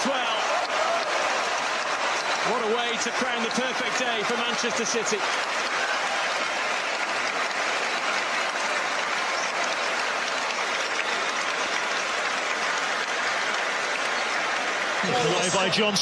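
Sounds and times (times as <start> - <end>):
stadium crowd cheering: 0.0 - 16.0.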